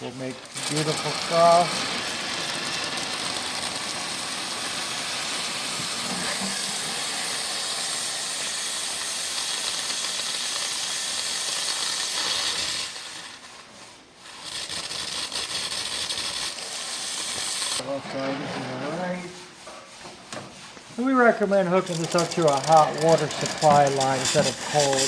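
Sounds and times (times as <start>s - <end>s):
steam wand hissing: 0.0s - 17.9s, 21.0s - 25.0s.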